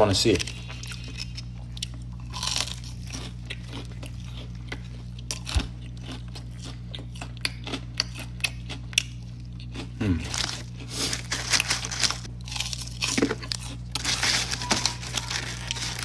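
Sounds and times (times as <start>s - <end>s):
low electrical hum: 0.0s - 16.0s
crunchy chewing: 0.3s - 16.0s.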